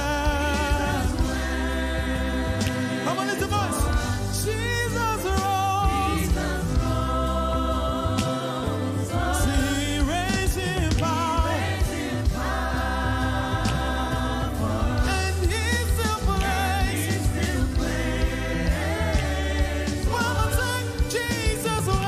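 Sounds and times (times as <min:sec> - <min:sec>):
bass line: 0:00.0 - 0:22.0
choir singing gospel: 0:00.0 - 0:22.0
live band playing: 0:00.0 - 0:22.0.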